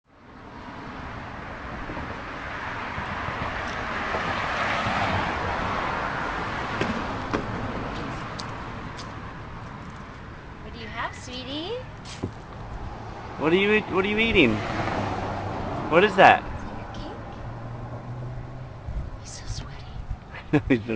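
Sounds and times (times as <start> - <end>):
passing vehicle road noise: 0.1 - 20.9.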